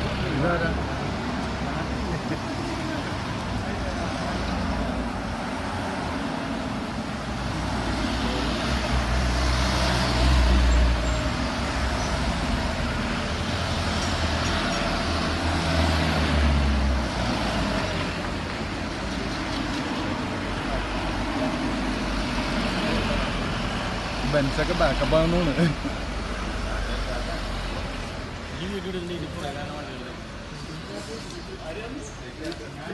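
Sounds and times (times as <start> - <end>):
cars driving past: 0.0 - 32.9.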